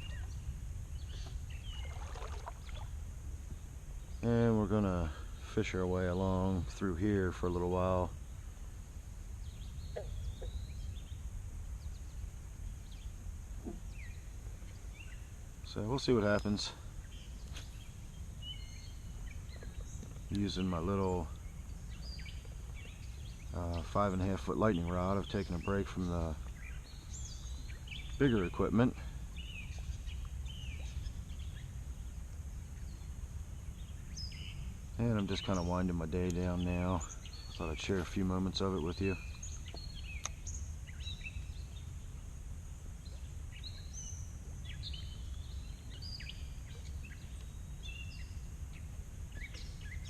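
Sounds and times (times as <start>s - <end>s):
faint bird chirps: 0.0s - 8.6s, 9.3s - 42.2s, 43.0s - 50.0s
low outdoor rumble: 0.0s - 50.0s.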